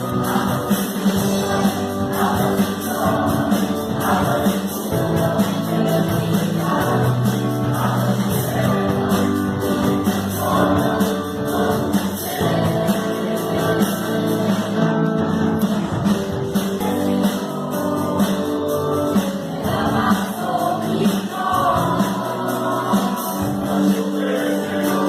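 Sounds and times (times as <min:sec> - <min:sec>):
guitar: 0:00.0 - 0:25.0
worship music from choir and band: 0:00.0 - 0:25.0.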